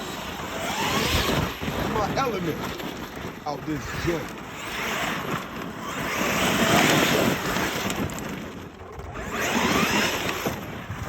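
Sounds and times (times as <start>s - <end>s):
rc truck motor and tyres: 0.0s - 11.0s.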